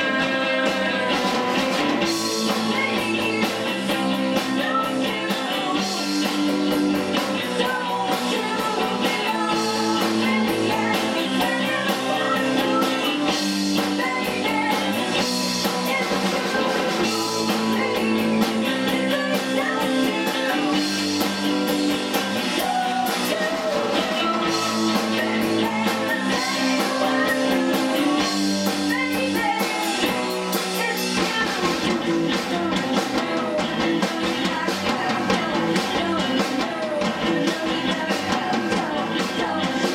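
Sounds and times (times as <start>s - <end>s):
bass guitar: 0.0s - 39.9s
drum kit: 0.0s - 39.9s
electric guitars: 0.0s - 39.9s
woman singing: 0.0s - 39.9s.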